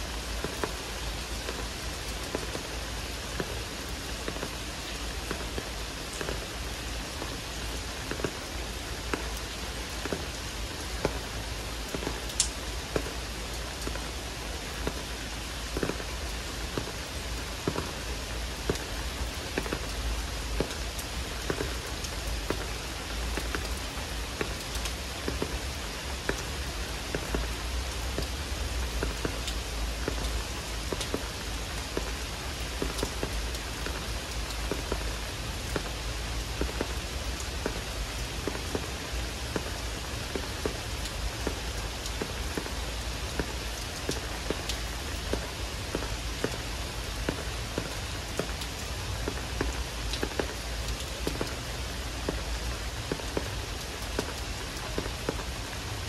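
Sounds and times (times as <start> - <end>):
heavy rain pouring: 0.0 - 56.0
raindrops tapping close by: 0.0 - 56.0.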